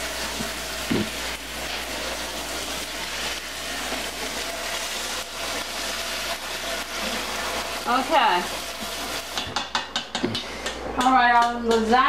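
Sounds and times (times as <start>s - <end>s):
pot of water boiling: 0.0s - 10.4s.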